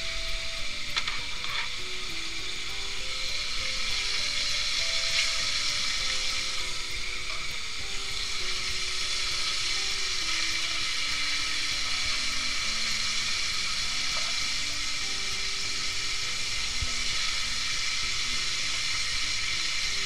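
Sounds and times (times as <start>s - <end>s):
meat sizzling in grease: 0.0s - 20.0s.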